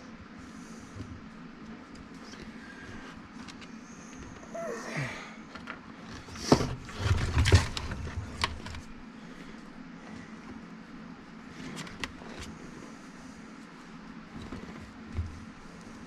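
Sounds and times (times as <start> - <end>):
shop fan humming: 0.0 - 16.0.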